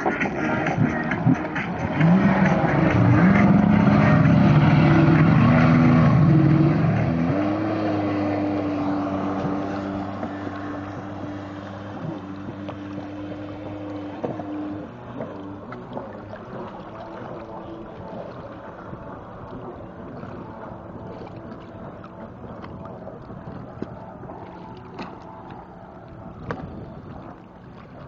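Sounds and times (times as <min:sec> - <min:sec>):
jet ski engine revving: 0:00.0 - 0:28.0.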